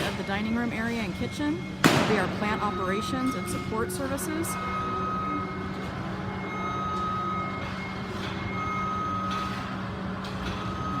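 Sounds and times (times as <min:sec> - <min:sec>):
reversing alarm beeping: 0:00.0 - 0:11.0.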